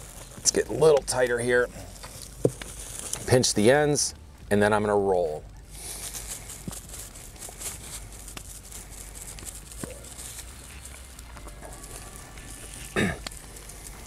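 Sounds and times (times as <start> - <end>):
cling film crinkling: 0.0 - 14.0.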